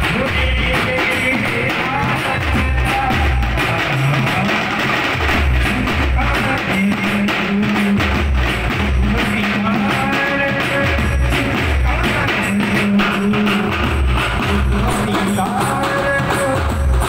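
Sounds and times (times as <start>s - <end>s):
heavy drum beats: 0.0s - 17.0s
street band music: 0.0s - 17.0s.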